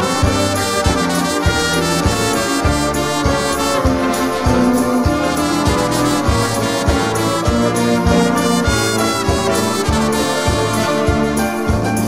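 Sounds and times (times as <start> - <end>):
brass instrumental music with beat: 0.0 - 12.0.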